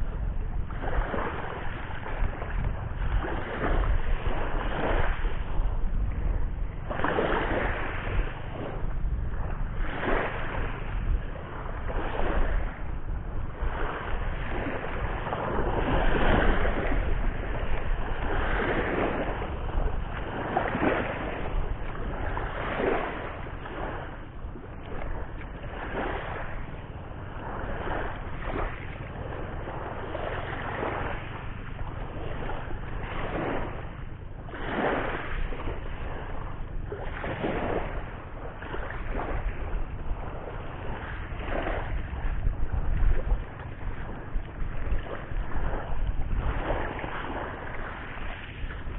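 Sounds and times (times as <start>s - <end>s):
surf splashing against shore: 0.0s - 48.9s
wind on microphone: 0.0s - 48.9s.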